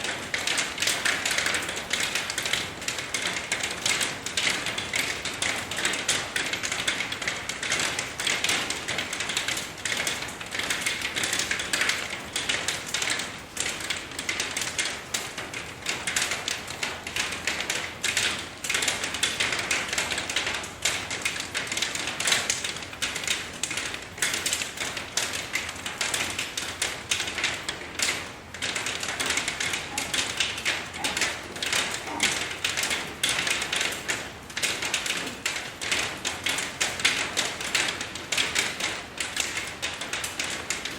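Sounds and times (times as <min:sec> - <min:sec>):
raindrops tapping on hard surface: 0:00.0 - 0:40.9.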